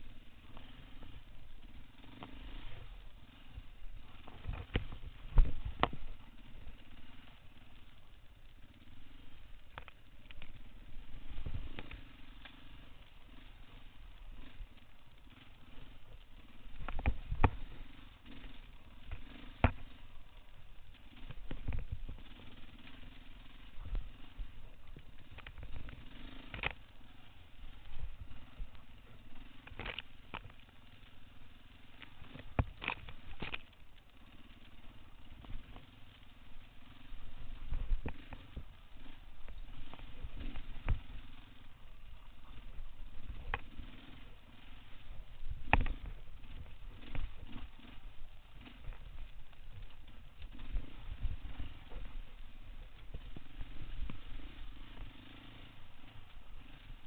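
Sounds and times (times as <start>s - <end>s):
dirt bike engine at low revs: 0.0s - 57.0s.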